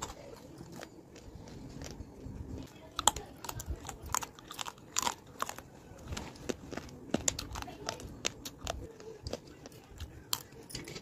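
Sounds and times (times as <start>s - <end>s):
person chewing crunchy pieces: 0.0s - 11.0s.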